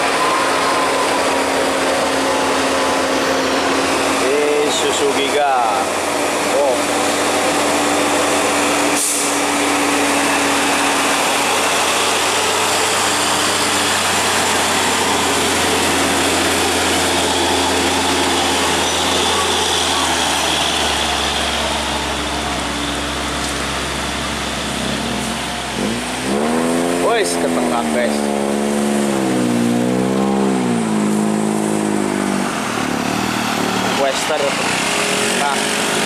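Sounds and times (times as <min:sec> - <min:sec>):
truck diesel engines climbing: 0:00.0 - 0:36.0.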